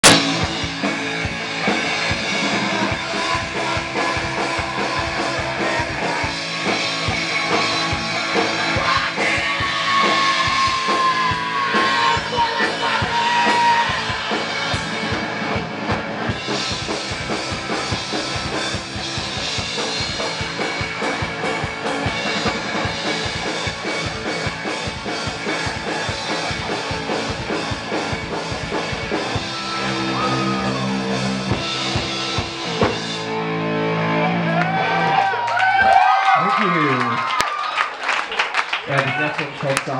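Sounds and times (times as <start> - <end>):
drum kit beat: 0.0 - 33.5
electric guitar: 0.0 - 37.3.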